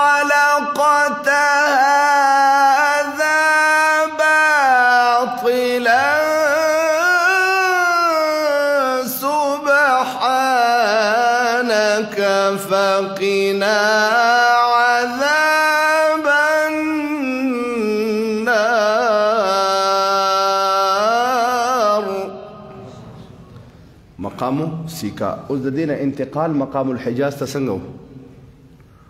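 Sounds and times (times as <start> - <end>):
man reciting melismatic chant: 0.0 - 28.4.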